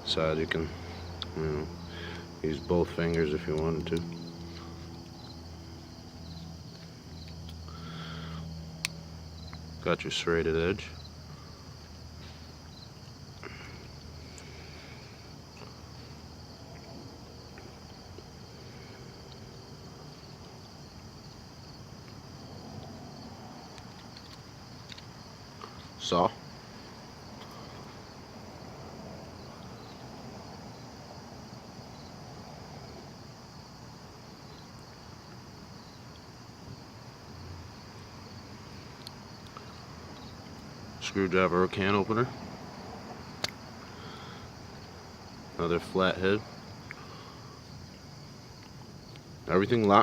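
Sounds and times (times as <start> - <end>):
background hiss: 0.0 - 50.0
crickets chirring: 0.0 - 50.0.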